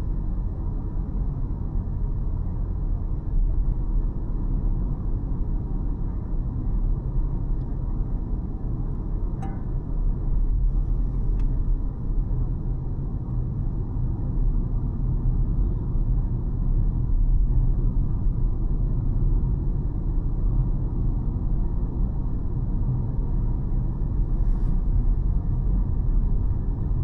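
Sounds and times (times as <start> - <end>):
car driving rumble: 0.0 - 27.0.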